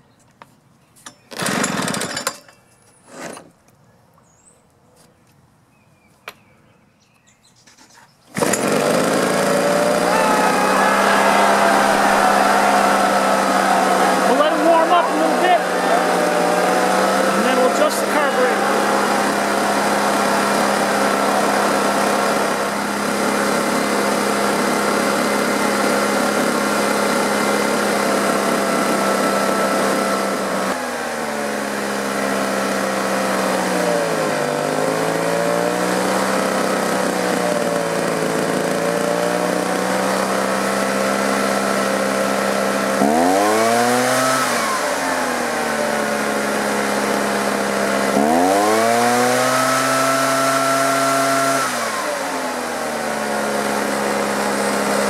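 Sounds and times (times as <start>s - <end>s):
leaf blower engine idling and revving: 1.3s - 2.2s, 8.3s - 55.0s.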